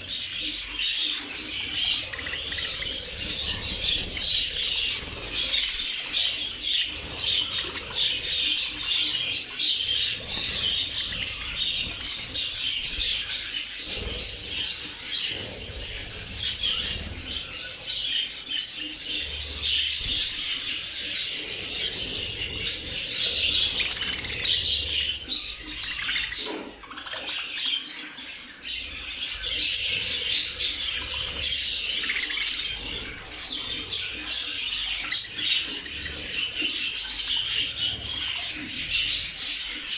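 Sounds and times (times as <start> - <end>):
budgerigars chirping and chattering: 0.0 - 39.9
wingbeats: 0.0 - 39.9.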